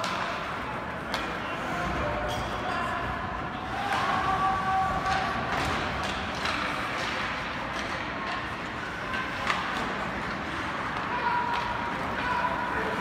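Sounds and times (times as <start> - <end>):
hockey sticks and puck clacking: 0.0 - 1.6, 3.6 - 13.0.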